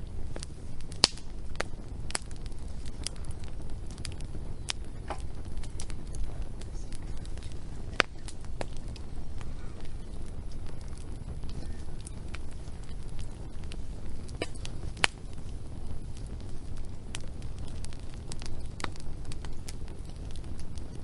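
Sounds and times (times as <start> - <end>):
sharp pops of fire: 0.0 - 21.0
wood fire crackling: 0.0 - 21.0.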